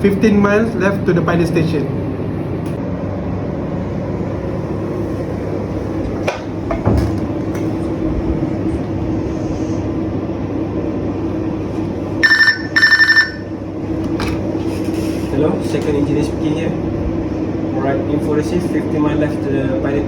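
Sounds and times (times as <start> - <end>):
engine room machinery drone: 0.0 - 20.0.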